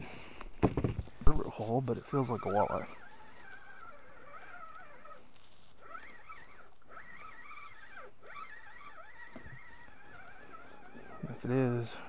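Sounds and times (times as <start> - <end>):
dog whining: 2.0 - 11.7.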